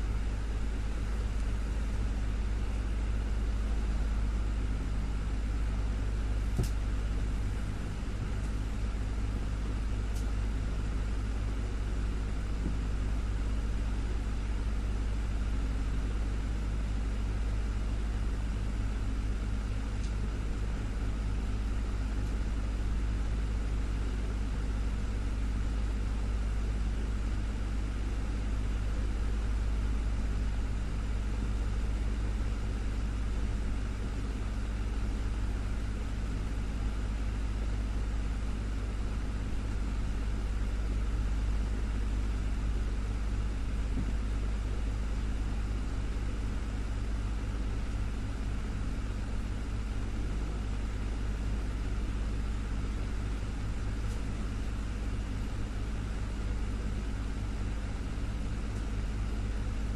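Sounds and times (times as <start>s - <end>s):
desktop fan running: 0.0s - 59.9s.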